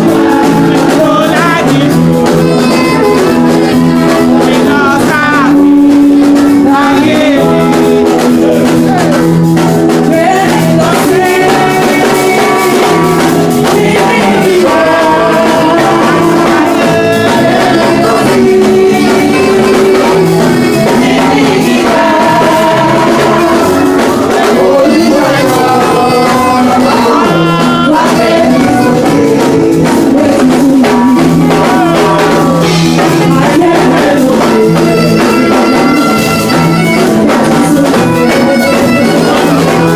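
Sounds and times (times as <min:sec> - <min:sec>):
continuous beat: 0:00.0 - 0:39.9
people singing: 0:00.0 - 0:39.9.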